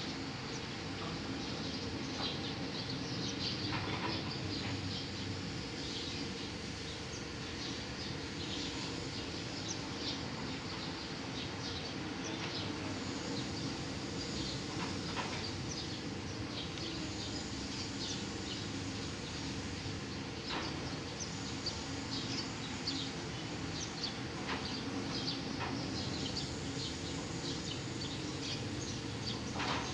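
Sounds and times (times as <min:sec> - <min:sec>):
low machine hum: 0:00.0 - 0:29.9
small birds chirping: 0:00.0 - 0:29.9.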